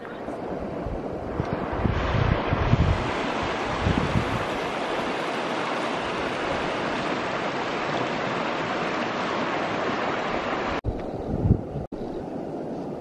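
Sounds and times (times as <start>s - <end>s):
water rushing: 0.0s - 10.8s
wind buffeting microphone: 0.0s - 13.0s.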